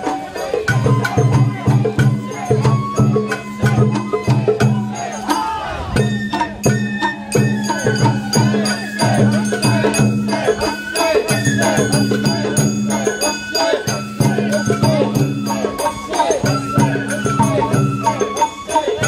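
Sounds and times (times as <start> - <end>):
bamboo flute melody: 0.0 - 19.0
drums: 0.0 - 19.0.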